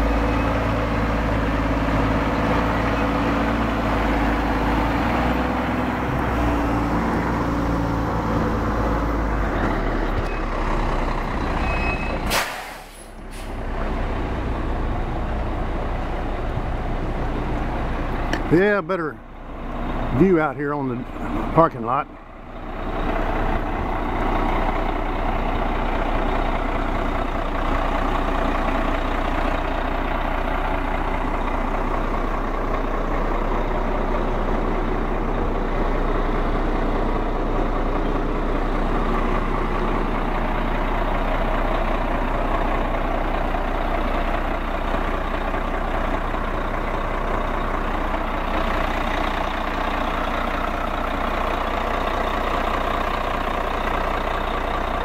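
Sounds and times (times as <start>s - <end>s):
diesel garbage truck engine idling: 0.0s - 55.0s.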